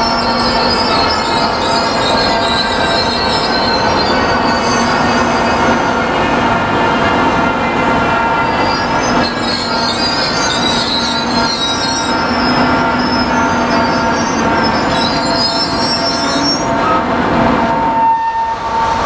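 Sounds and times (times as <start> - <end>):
wheels squealing against rails: 0.0 - 19.0.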